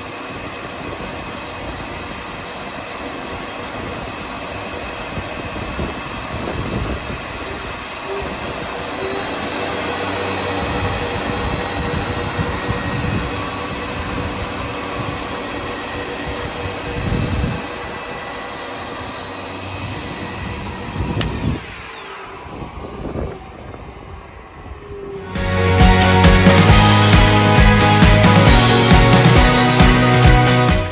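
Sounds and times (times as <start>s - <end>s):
planer machine whining: 0.0s - 30.9s.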